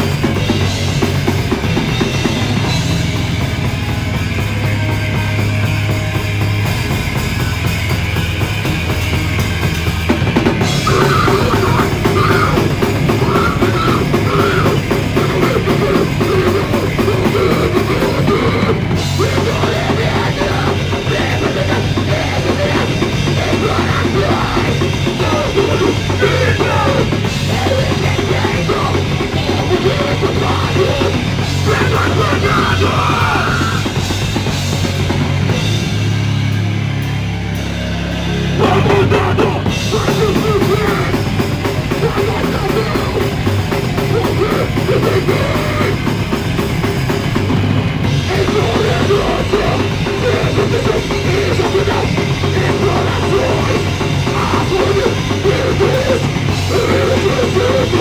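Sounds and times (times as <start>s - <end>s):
punk metal band playing: 0.0s - 58.0s.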